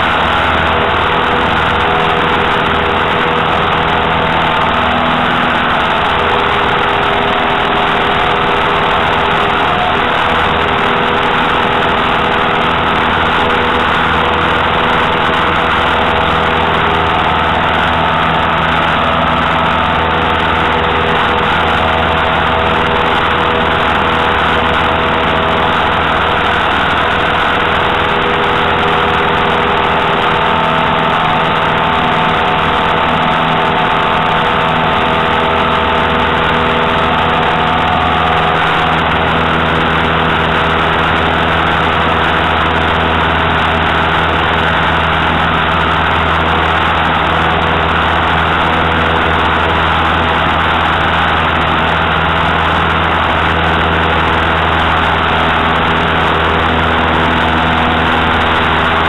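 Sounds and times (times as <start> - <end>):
plane piston engine running: 0.0 - 59.0.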